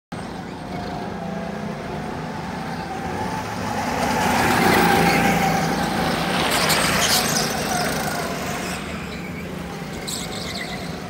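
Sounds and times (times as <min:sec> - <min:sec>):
go-kart motors: 0:00.2 - 0:11.0.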